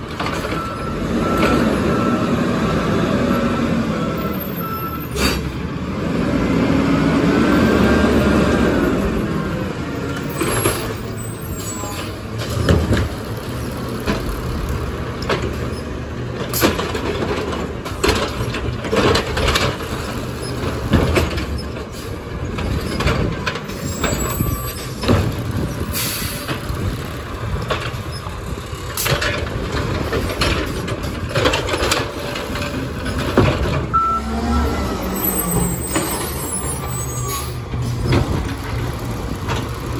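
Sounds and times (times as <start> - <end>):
garbage truck engine: 0.0 - 39.9
trash carts clanking and banging: 0.0 - 39.9.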